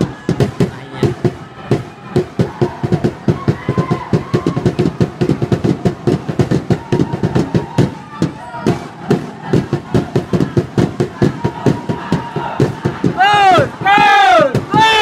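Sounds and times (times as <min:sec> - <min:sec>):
rapid sharp bangs: 0:00.0 - 0:15.0.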